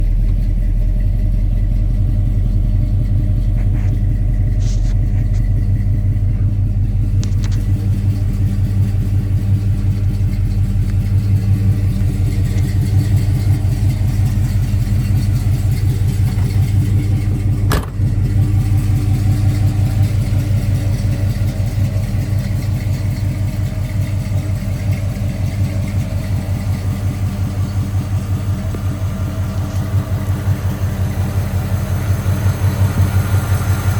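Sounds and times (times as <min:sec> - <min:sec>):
pickup truck engine running: 0:00.0 - 0:33.9.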